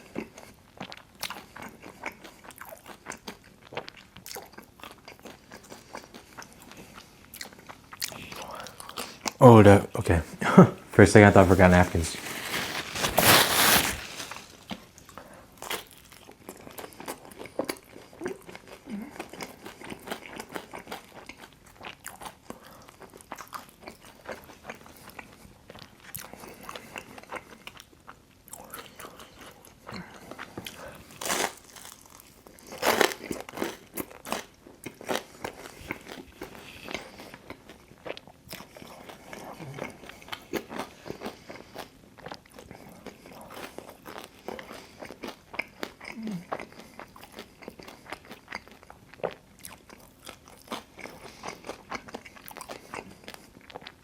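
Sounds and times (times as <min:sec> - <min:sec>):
crunchy pizza crust chewing: 0:00.0 - 0:09.4, 0:11.2 - 0:54.0.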